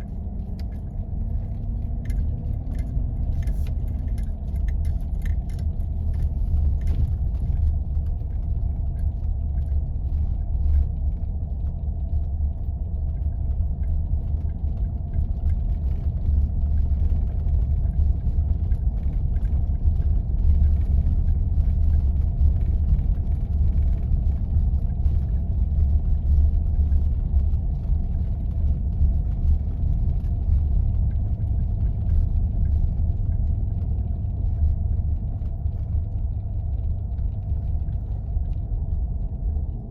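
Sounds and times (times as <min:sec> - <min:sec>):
faint ticks and rattles: 0:00.0 - 0:39.9
vehicle rumble on snowy road: 0:00.0 - 0:39.9.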